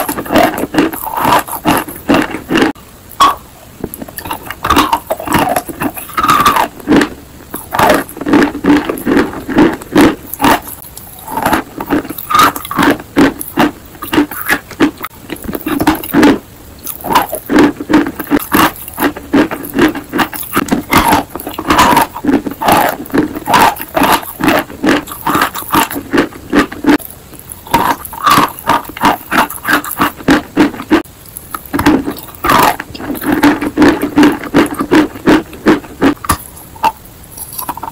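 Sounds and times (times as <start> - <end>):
chewing and crunching chalk: 0.0 - 37.9
moist mouth sounds: 0.0 - 37.9.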